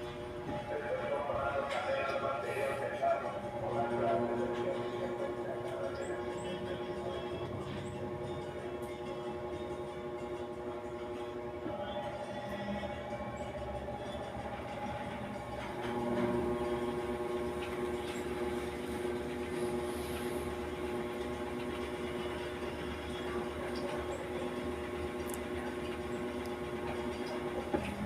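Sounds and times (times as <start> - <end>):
washing machine spinning: 0.0 - 28.0.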